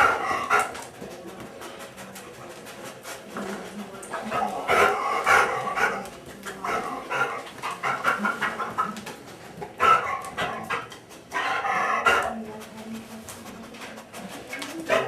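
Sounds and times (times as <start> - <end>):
dog panting with stridor: 0.0 - 15.0.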